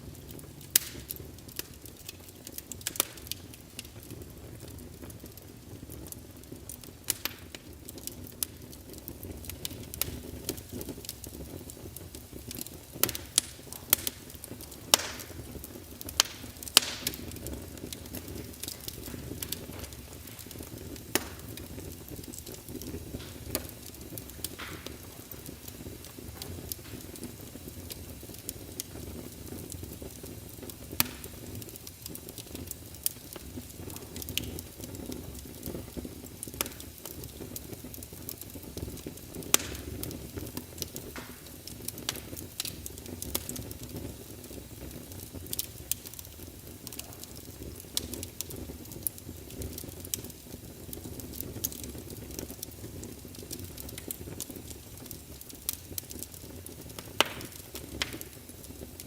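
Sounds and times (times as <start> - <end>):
fire crackles and pops: 0.0 - 59.0
flames hissing and rumbling: 0.0 - 59.0.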